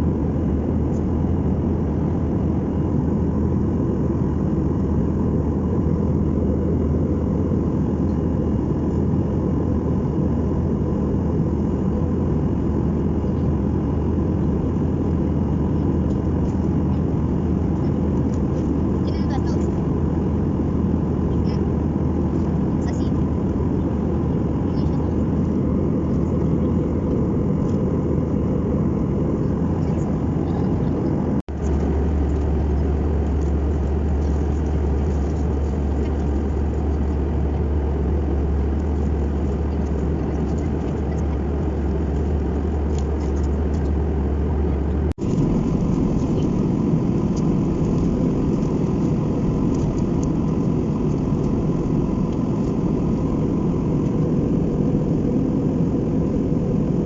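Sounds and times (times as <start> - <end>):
airliner cabin engine rush: 0.0 - 57.0
heavy low hum: 0.0 - 57.0.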